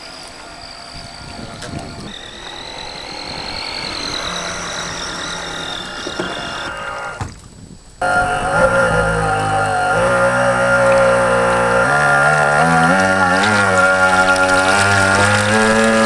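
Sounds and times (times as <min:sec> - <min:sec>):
model boat motor whining: 0:00.0 - 0:16.0.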